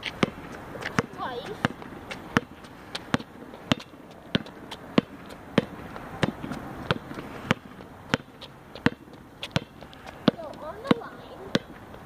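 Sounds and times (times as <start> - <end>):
basketball bouncing on asphalt: 0.0 - 12.0.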